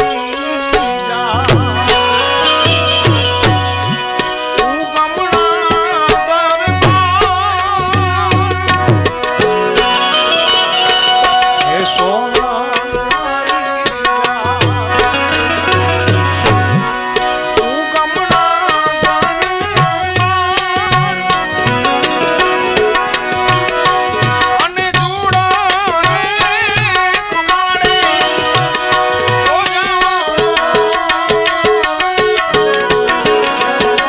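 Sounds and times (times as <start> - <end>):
harmonium melody: 0.0 - 34.0
tabla rhythm: 0.0 - 34.0.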